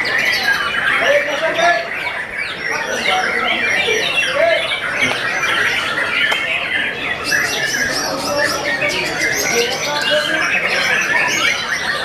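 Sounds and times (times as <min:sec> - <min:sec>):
birds singing whistled phrases: 0:00.0 - 0:12.0.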